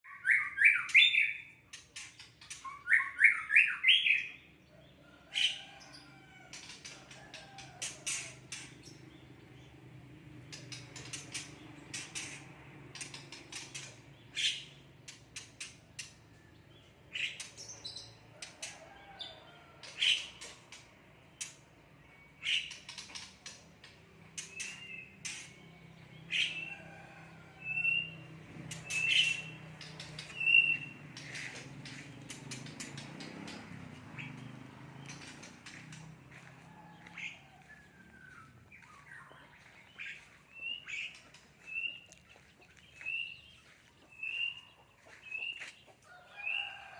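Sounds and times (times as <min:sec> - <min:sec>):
songbird chirping: 0:00.0 - 0:46.9.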